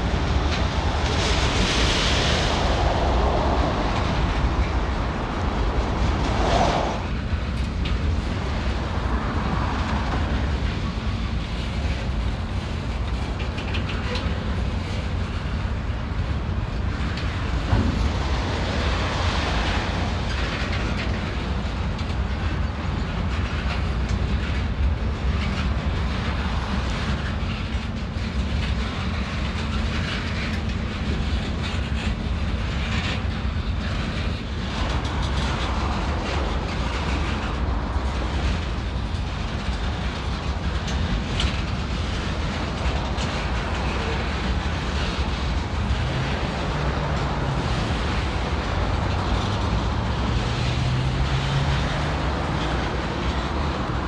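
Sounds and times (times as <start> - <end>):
train wheels rumbling on rails: 0.0 - 54.0
wheels clicking over rail joints: 7.2 - 54.0.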